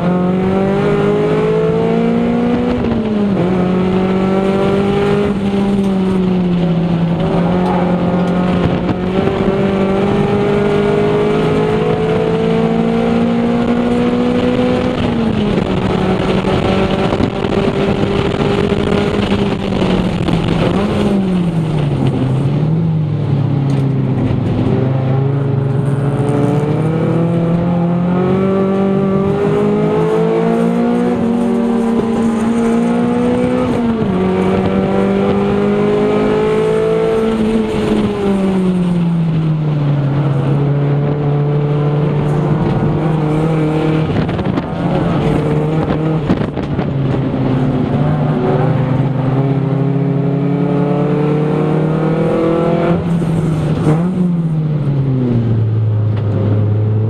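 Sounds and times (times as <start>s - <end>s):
car engine driven hard: 0.0s - 57.0s.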